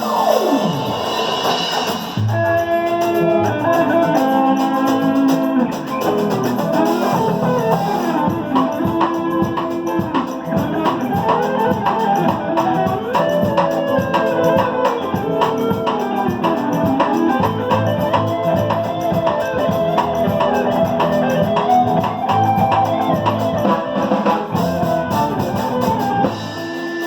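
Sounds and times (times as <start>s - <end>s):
melody over drum beat: 0.0s - 27.0s.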